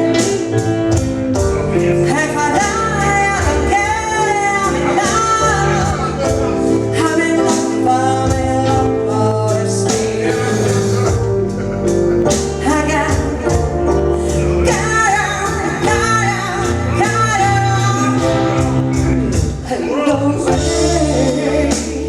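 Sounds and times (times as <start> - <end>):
song with singing: 0.0 - 22.0.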